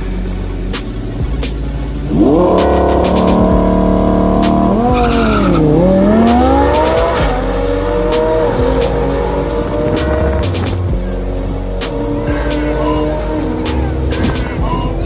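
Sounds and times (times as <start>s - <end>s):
hip-hop beat: 0.0s - 15.0s
race car engine revving: 0.0s - 15.0s.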